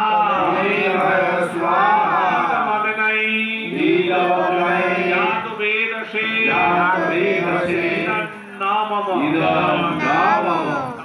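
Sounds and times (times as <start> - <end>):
voices chanting melodically: 0.0 - 2.8, 3.6 - 8.4, 9.1 - 11.0.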